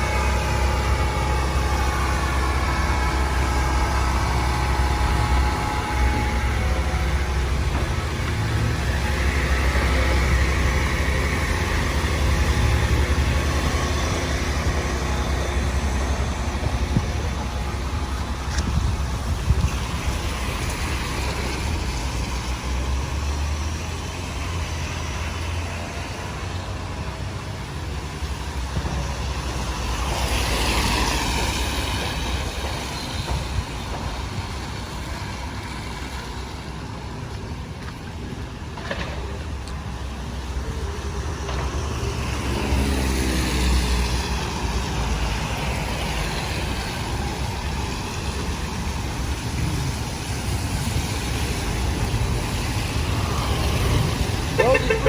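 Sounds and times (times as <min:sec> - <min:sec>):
vehicle passing with hiss: 0:00.0 - 0:37.5, 0:38.2 - 0:55.0
vehicle engine rumbling: 0:00.0 - 0:55.0.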